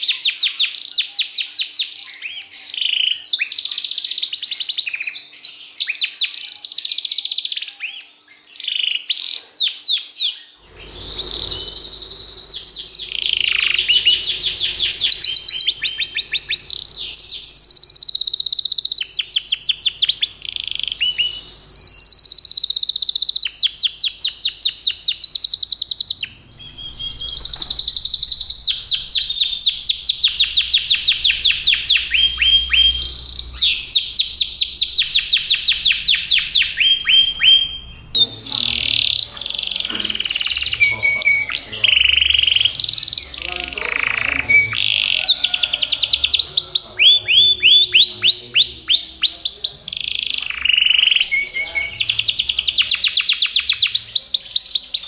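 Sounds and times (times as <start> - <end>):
canaries singing trills: 0.0 - 55.0.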